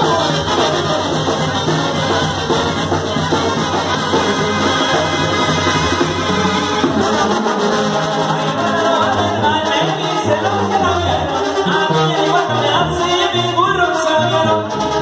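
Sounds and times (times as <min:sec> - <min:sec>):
brass band playing: 0:00.0 - 0:15.0
man singing: 0:00.0 - 0:15.0.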